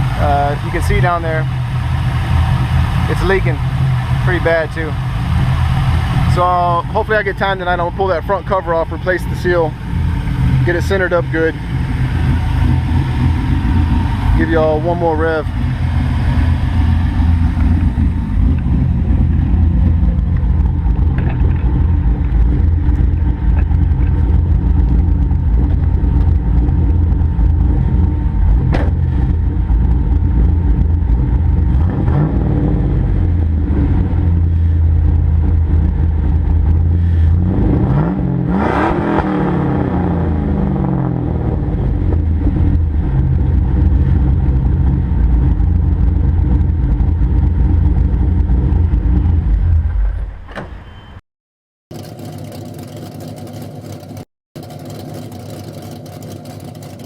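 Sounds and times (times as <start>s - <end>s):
car engine idling and revving: 0.0s - 50.7s, 51.9s - 57.0s.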